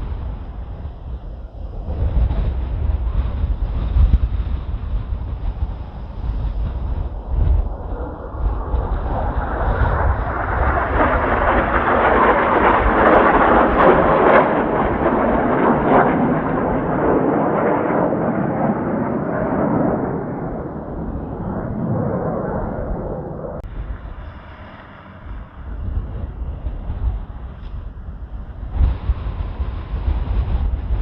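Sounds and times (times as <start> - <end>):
jet aircraft roaring overhead: 0.0 - 31.0
wind buffeting microphone: 0.0 - 31.0.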